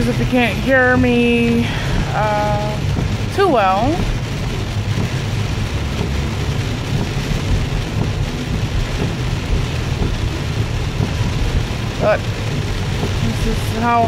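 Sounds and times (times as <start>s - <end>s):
heavy rain on a car: 0.0s - 14.0s.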